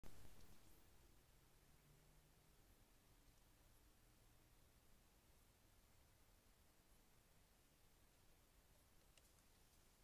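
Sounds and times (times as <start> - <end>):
faint steady hiss: 0.0 - 10.0
weak low hum: 0.0 - 10.0.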